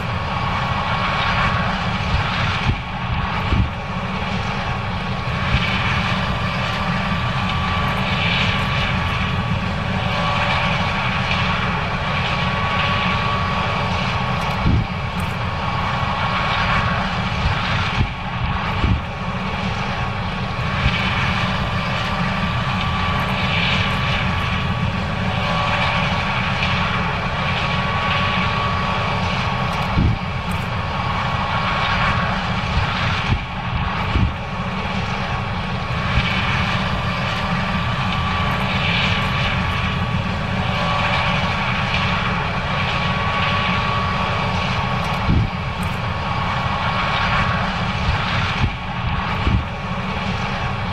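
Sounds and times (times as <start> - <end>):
combine harvester engine rumble: 0.0 - 50.9.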